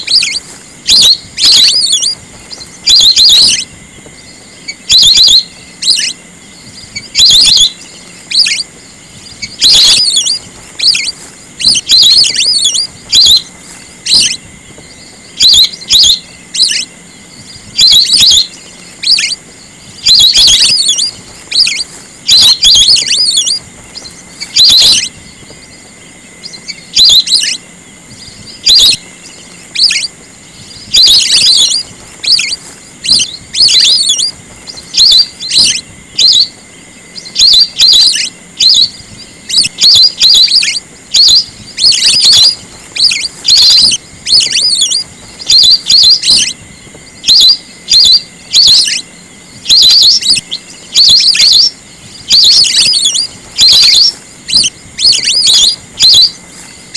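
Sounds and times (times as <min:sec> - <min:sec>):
whistling ducks calling: 0:00.0 - 0:56.9.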